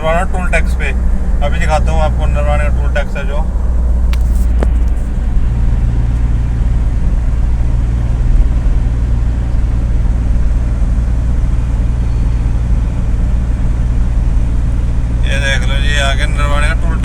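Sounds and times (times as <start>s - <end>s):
road noise: 0.0s - 17.0s
truck engine droning: 0.0s - 17.0s.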